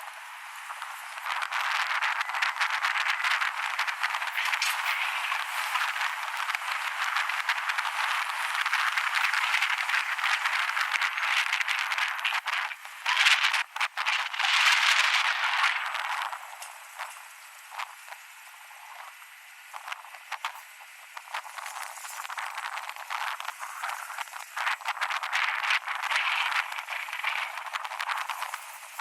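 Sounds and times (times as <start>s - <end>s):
wind buffeting microphone: 0.7s - 17.1s, 19.8s - 29.0s.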